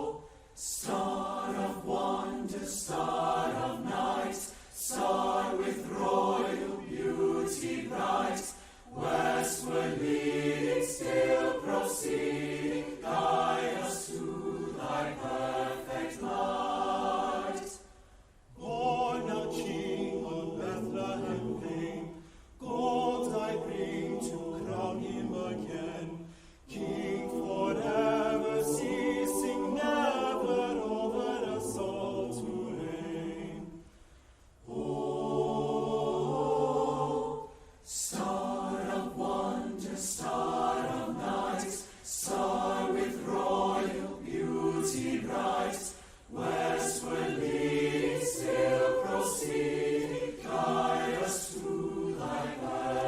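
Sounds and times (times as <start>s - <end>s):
choir singing: 0.0s - 53.0s.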